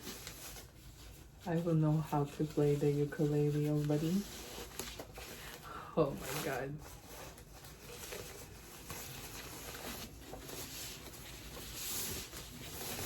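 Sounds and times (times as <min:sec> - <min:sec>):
packaging rustling: 0:00.0 - 0:01.6, 0:02.3 - 0:13.0
scratchy handling noises: 0:00.0 - 0:13.0.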